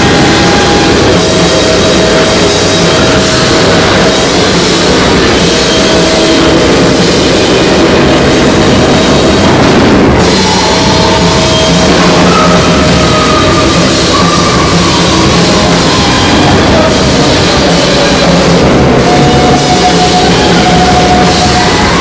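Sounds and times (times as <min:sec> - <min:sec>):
drum kit playing: 0:00.0 - 0:22.0
wind instruments holding long tones: 0:00.0 - 0:22.0.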